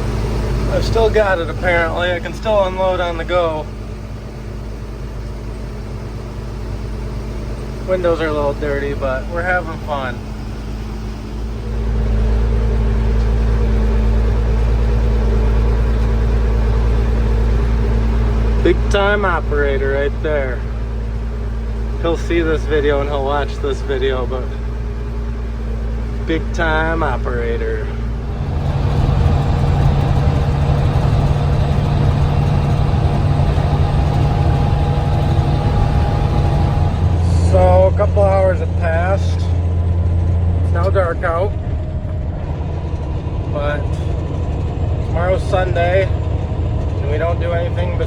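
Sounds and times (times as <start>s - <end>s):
tractor engine droning: 0.0s - 48.0s.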